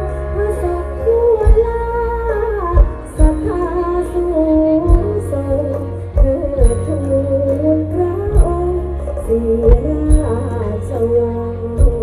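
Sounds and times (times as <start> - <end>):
steady bass line: 0.0 - 12.0
woman singing long gliding notes: 0.0 - 12.0.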